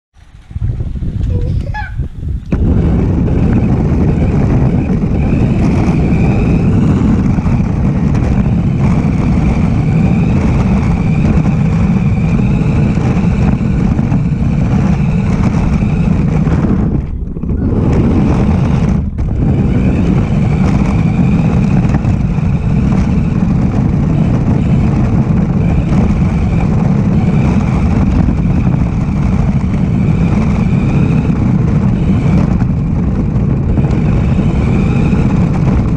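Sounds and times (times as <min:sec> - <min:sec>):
radio-controlled car rumble: 0:00.4 - 0:35.9.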